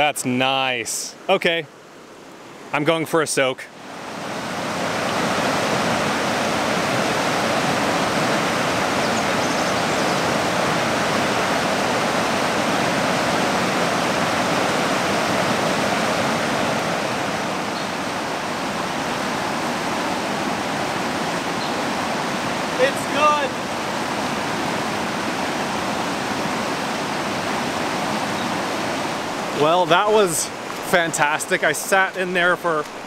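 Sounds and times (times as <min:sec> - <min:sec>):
river rushing over rapids: 0:00.8 - 0:33.0.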